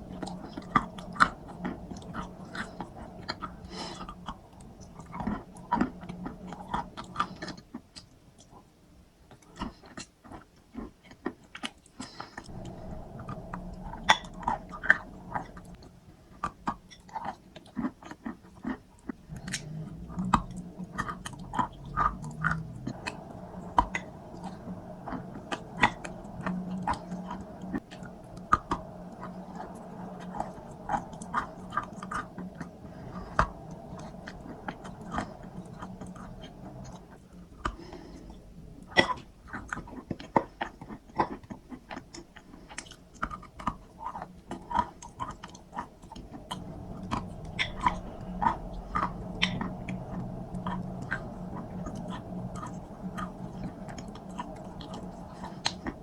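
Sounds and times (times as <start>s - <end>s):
chewing crunchy treat: 0.0s - 56.0s
faint steady hum: 0.0s - 56.0s.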